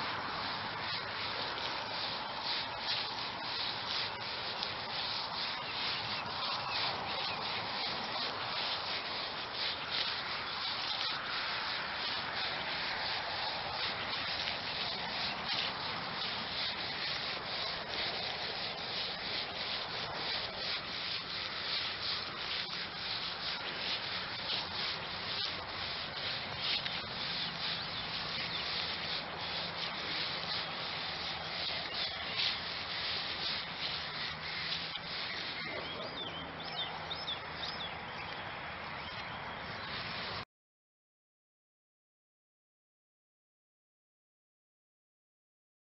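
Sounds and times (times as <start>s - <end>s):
footsteps swishing through grass: 0.0s - 40.4s
handling rub on microphone: 0.0s - 40.4s.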